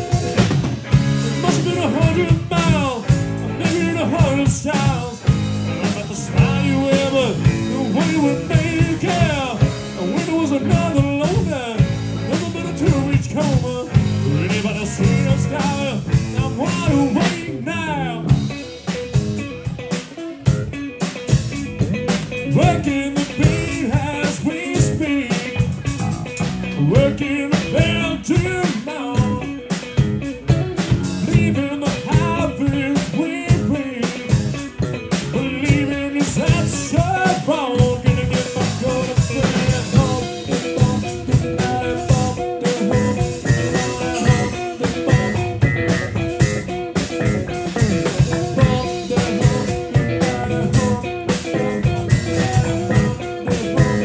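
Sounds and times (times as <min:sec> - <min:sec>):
rock band playing funk groove: 0:00.0 - 0:54.0
sliding guitar notes: 0:00.0 - 0:54.0.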